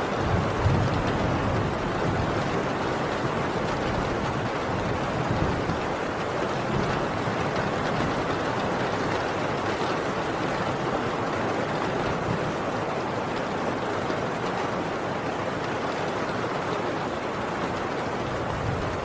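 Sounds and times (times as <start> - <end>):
heavy rain on a tin roof: 0.0 - 19.0.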